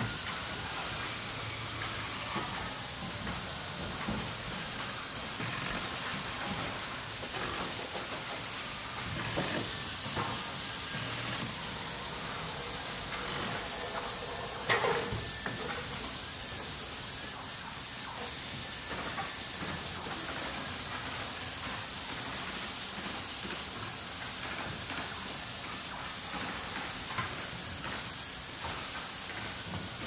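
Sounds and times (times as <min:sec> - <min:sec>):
machine hiss: 0:00.0 - 0:30.0.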